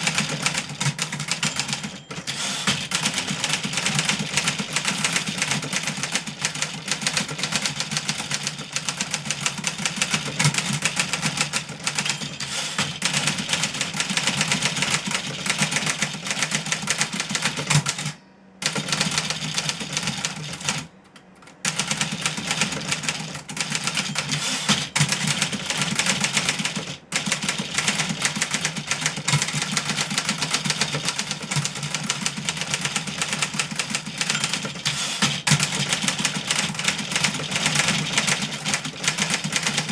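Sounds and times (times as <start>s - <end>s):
typewriter typing fast: 0.0s - 39.9s.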